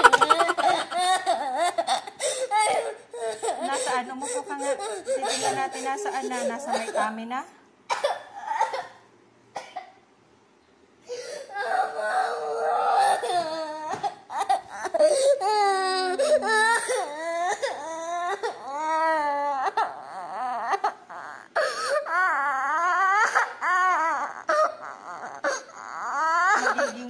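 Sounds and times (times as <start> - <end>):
child crying: 0.0 - 7.2, 11.1 - 27.0.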